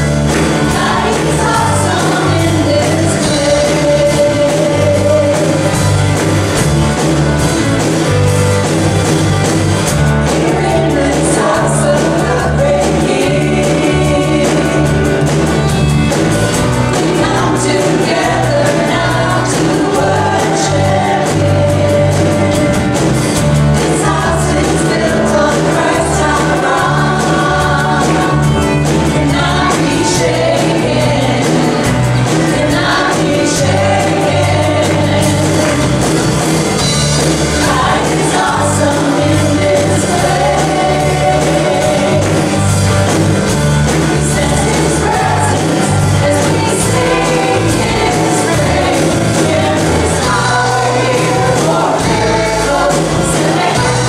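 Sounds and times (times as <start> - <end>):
church worship band with singer: 0.0 - 54.0.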